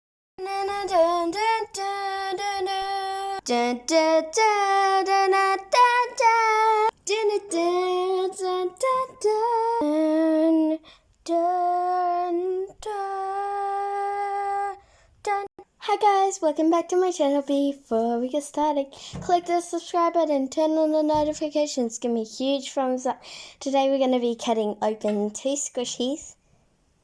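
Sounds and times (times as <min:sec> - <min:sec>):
child singing: 0:00.4 - 0:23.8.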